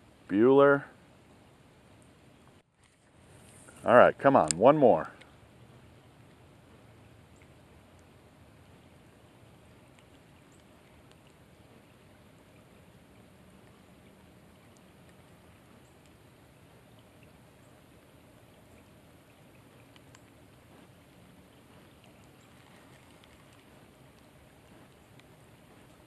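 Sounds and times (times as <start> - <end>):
light rain hiss: 0.0 - 26.0
raindrops ticking: 4.2 - 26.0.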